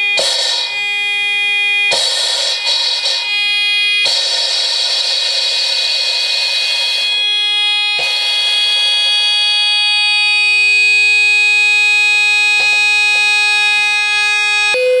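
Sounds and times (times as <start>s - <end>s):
electric buzzer in glass jar: 0.0s - 14.8s.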